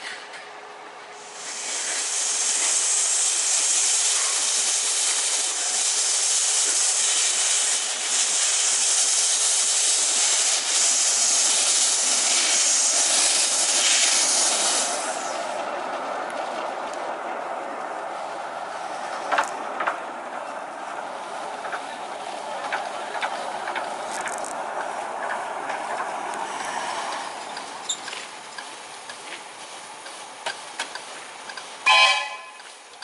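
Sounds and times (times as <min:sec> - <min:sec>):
steam locomotive hissing: 0:01.1 - 0:33.0.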